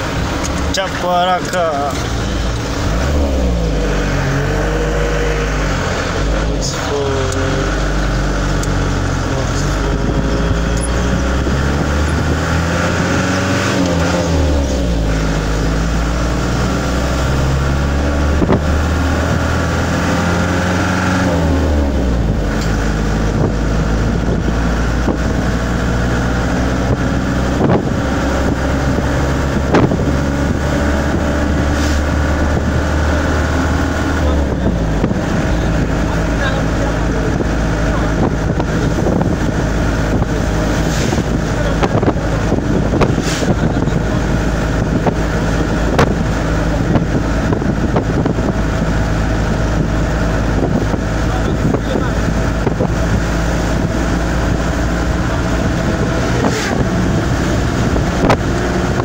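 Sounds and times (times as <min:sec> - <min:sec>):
van engine running: 0:00.0 - 0:59.0.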